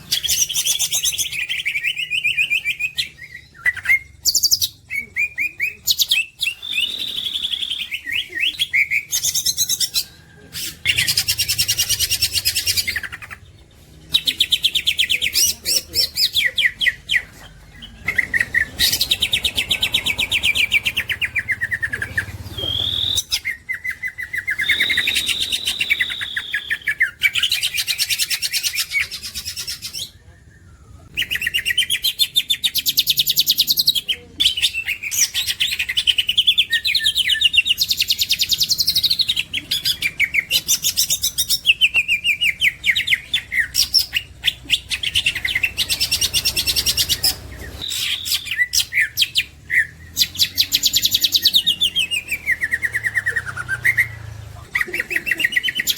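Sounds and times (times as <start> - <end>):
bird singing trilled notes: 10.8 - 55.9.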